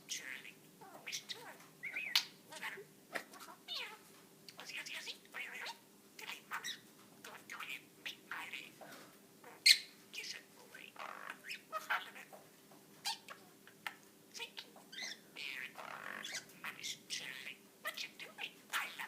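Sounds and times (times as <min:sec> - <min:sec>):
budgerigar chirping and warbling: 0:00.1 - 0:08.8, 0:09.4 - 0:12.4, 0:13.0 - 0:13.4, 0:14.3 - 0:19.0.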